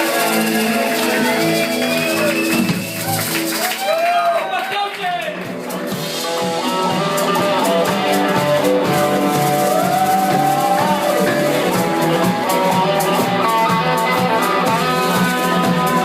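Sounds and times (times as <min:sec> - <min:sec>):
band music with guitars: 0:00.0 - 0:16.0
steady drum beat: 0:00.0 - 0:16.0.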